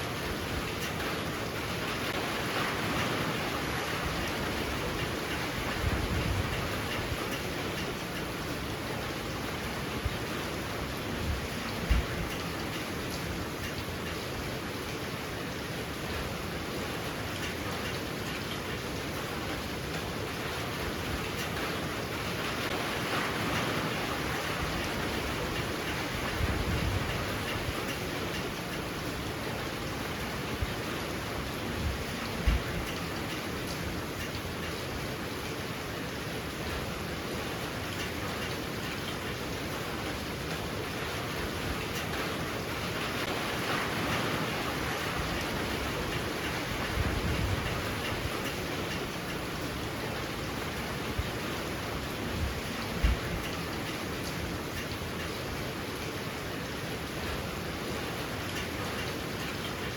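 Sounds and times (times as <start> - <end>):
heavy rain pouring: 0.0 - 59.9
strong wind: 0.0 - 59.9.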